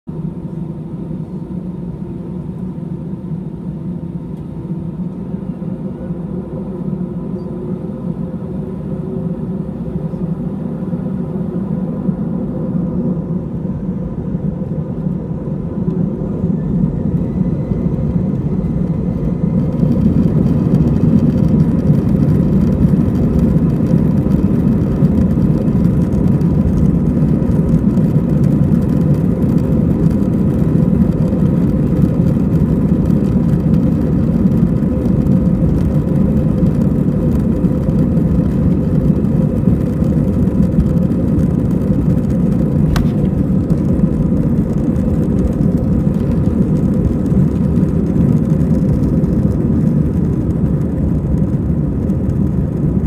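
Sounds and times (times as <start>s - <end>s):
jet engines heard from cabin: 0.0s - 53.0s.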